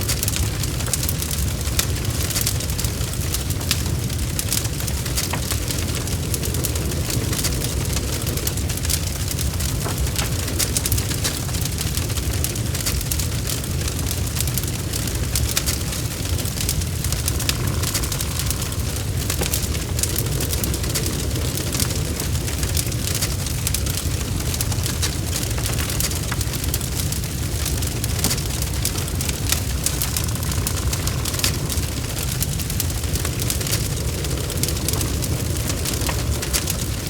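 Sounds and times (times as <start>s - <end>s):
fire crackling and popping: 0.0s - 37.0s
fire flames rumbling: 0.0s - 37.0s.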